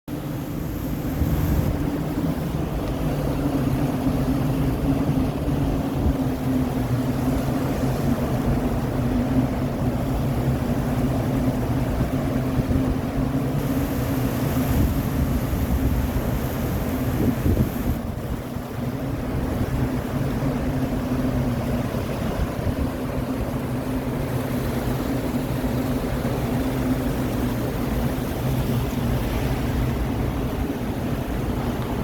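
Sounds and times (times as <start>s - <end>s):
strong wind buffeting microphone: 0.2s - 32.0s.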